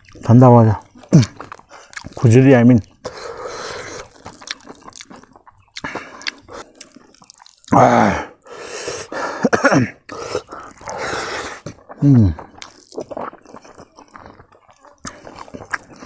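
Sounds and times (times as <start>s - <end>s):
wet chewing and lip smacking: 0.0s - 9.2s, 9.9s - 16.0s.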